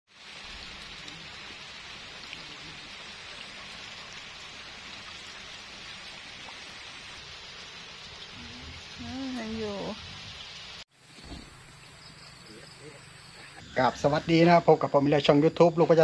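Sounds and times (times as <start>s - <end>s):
rain falling on pond: 0.1s - 13.6s.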